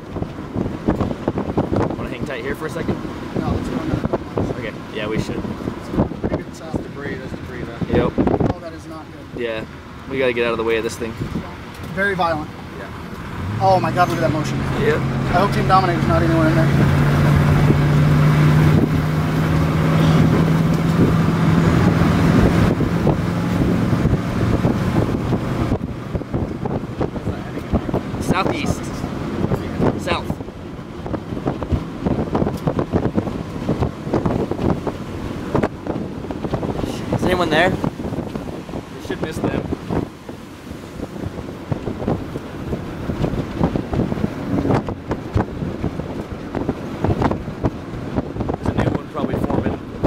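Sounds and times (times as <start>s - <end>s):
car engine hum: 0.0s - 50.0s
road and wind noise: 0.0s - 50.0s.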